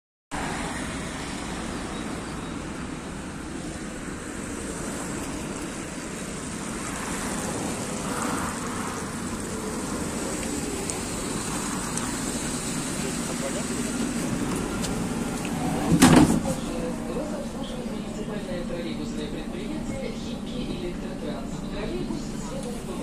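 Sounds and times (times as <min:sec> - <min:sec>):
road traffic noise: 0:00.3 - 0:23.0.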